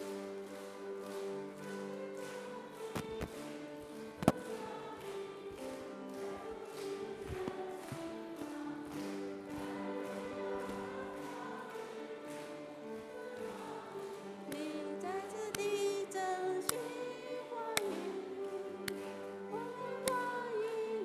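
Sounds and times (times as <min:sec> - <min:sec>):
congregation singing: 0:00.0 - 0:21.0.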